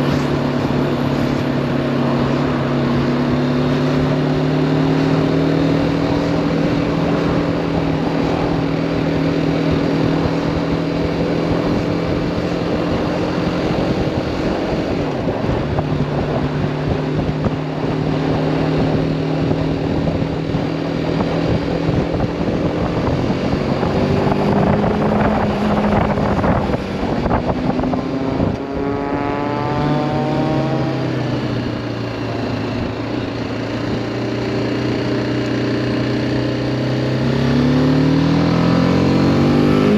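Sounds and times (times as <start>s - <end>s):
wind noise: 0.0s - 35.3s
motorcycle engine running: 0.0s - 39.9s.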